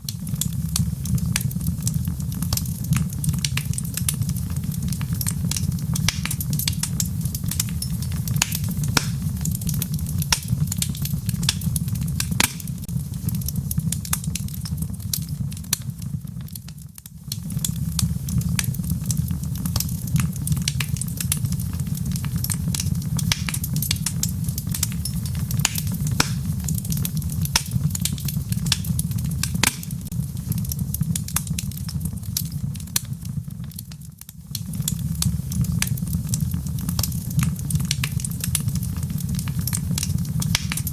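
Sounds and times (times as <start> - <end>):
logs crackling and popping: 0.0 - 40.9
low fire rumble: 0.0 - 40.9.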